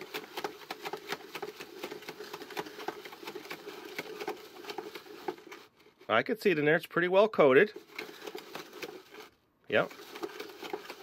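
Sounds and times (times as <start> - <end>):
cereal rattling in plastic cylinder: 0.0 - 5.8, 7.6 - 11.0.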